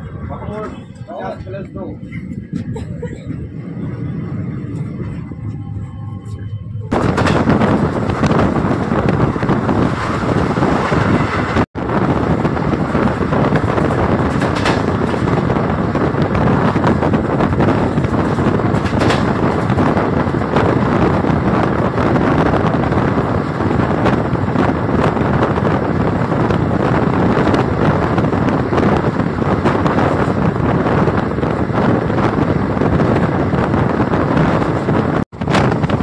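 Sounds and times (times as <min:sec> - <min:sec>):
train coach rumbling on track: 0:00.0 - 0:36.0
wind buffeting microphone: 0:00.0 - 0:36.0.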